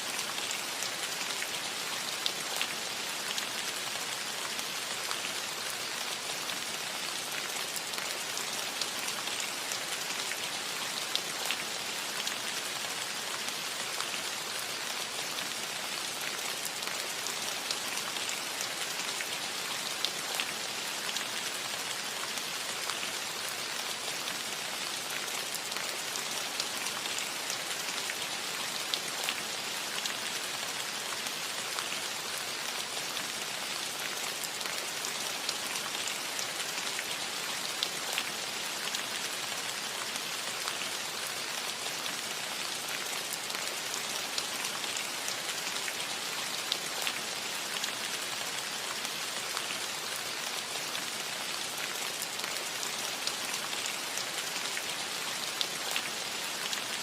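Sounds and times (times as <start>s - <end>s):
rain on a roof: 0.0s - 57.0s.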